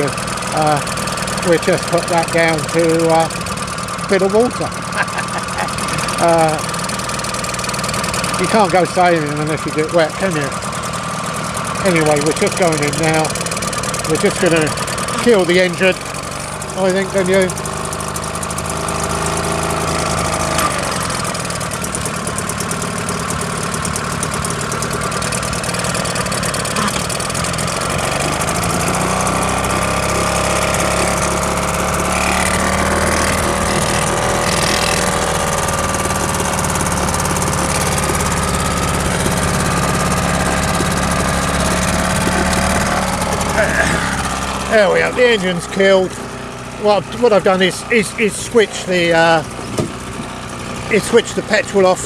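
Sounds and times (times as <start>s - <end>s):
outboard motor idling: 0.0s - 52.0s.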